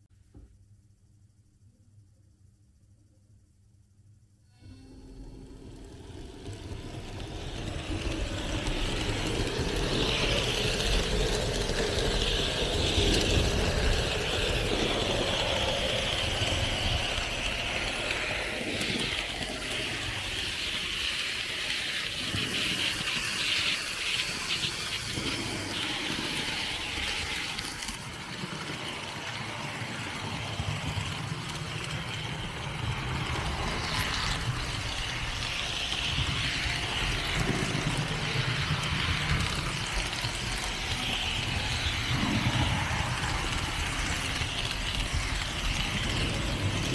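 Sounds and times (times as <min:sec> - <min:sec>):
model train wheels rattling on rails: 0:04.6 - 0:46.9.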